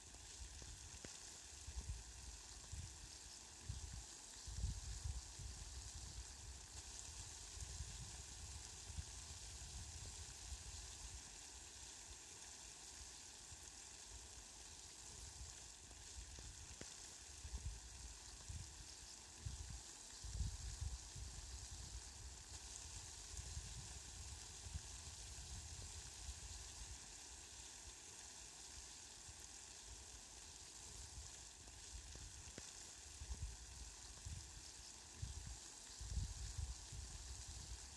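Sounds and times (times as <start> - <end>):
water spraying onto plants: 0.0 - 37.9.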